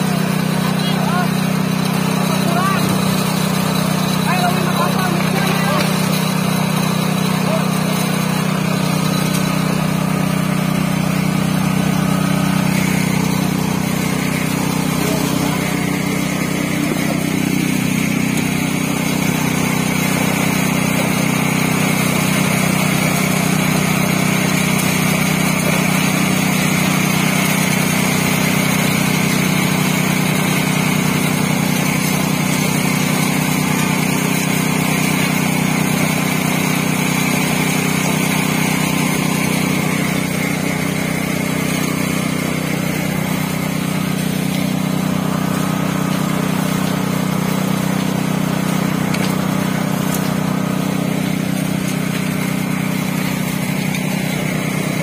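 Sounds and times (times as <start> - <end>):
machinery engine droning: 0.0 - 55.0.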